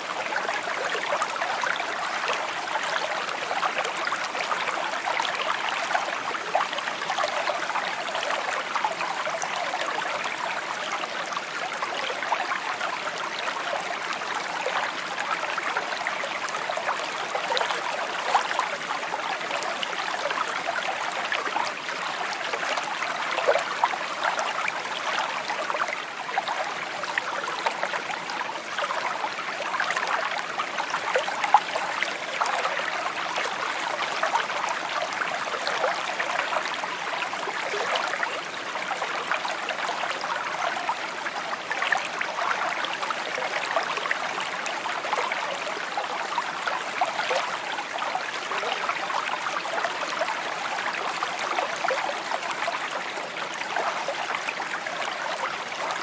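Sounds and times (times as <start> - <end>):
brook trickling and gurgling: 0.0 - 56.0.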